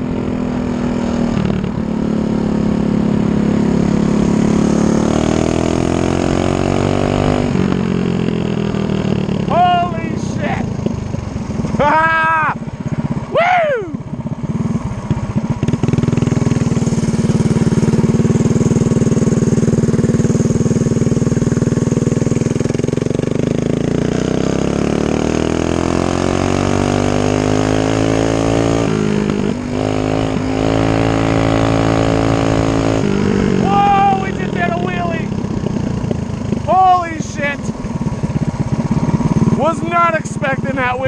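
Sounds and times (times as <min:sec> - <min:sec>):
mini bike engine running hard: 0:00.0 - 0:41.0.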